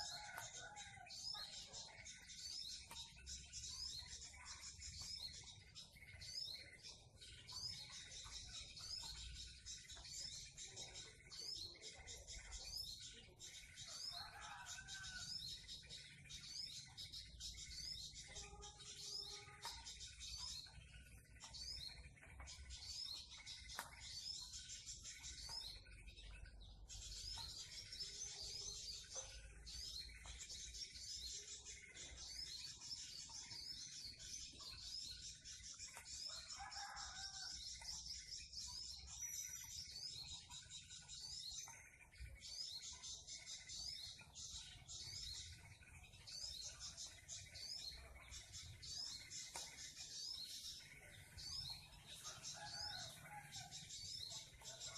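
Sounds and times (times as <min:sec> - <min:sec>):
faint rapid bird chirping: 0:00.0 - 0:54.9.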